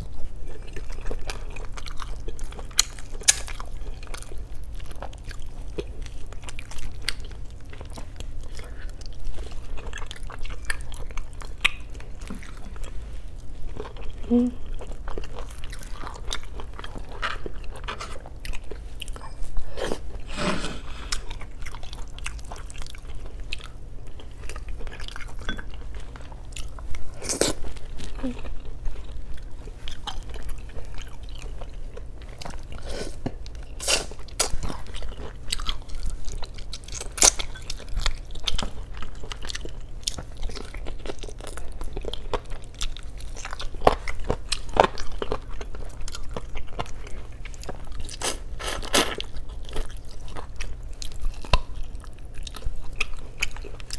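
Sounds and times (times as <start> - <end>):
wet chewing and biting: 0.4 - 13.0, 21.0 - 53.9.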